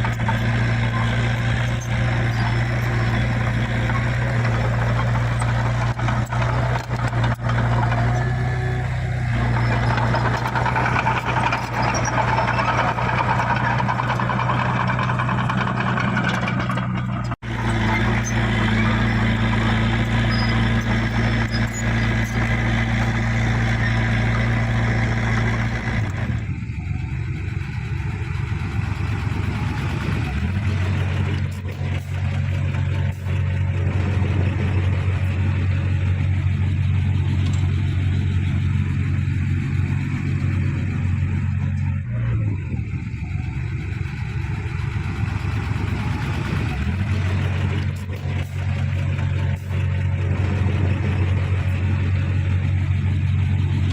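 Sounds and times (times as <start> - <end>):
heavy diesel machinery running: 0.0 - 53.9.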